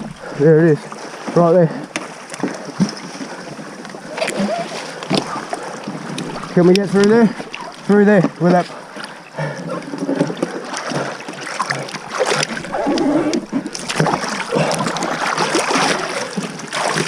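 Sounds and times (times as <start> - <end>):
water splashing around boat: 0.0 - 17.0.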